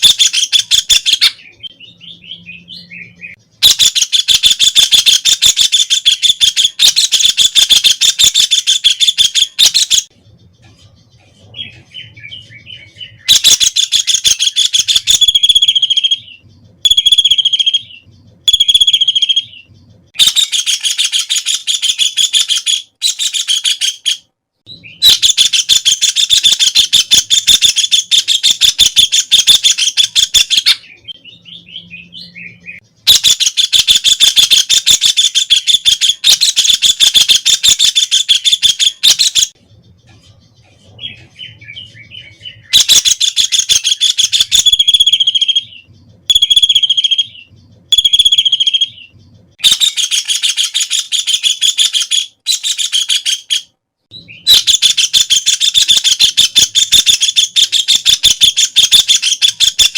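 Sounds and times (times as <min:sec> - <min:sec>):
bird chattering notes: 0:00.0 - 0:24.2, 0:24.8 - 0:53.6, 0:54.2 - 0:59.9.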